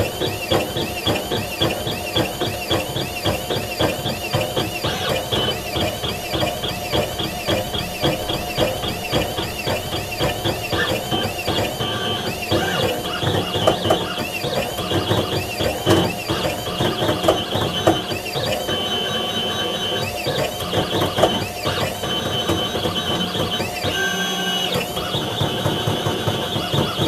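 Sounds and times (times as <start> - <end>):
drive motors whining: 0.0 - 27.0.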